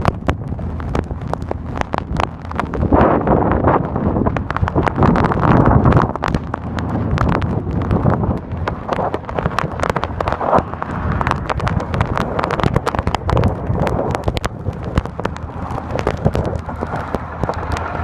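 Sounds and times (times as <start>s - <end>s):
low rumble of road traffic: 0.0s - 18.0s
sharp crackles: 0.0s - 18.0s
wind buffeting microphone: 0.0s - 18.0s.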